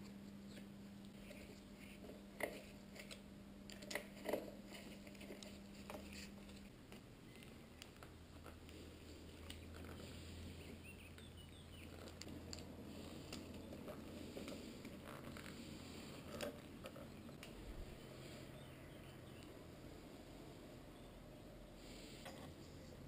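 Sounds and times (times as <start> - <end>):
hands rustling cables: 0.0 - 18.6.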